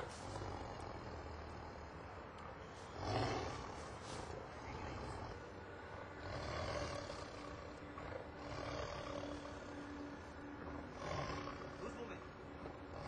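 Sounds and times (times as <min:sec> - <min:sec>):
tiger growling and roaring: 0:00.0 - 0:13.0.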